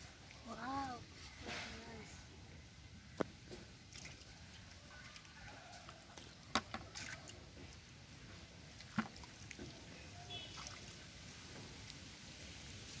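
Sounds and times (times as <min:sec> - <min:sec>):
muddy water slopping and splashing: 0:00.0 - 0:01.8, 0:03.3 - 0:12.8.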